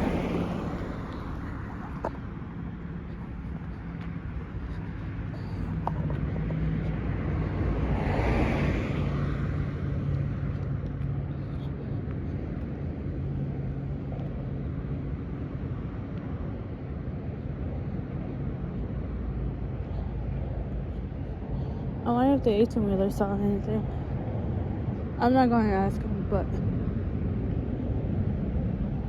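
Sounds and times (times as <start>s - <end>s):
low engine rumble: 0.0s - 29.0s
passing vehicle: 0.0s - 29.0s.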